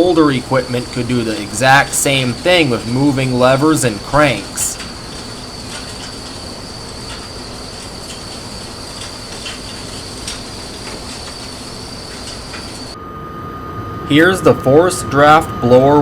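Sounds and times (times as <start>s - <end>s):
machinery noise: 0.0s - 13.1s
high-pitched whine: 0.0s - 16.0s
faint ticks: 0.1s - 13.0s.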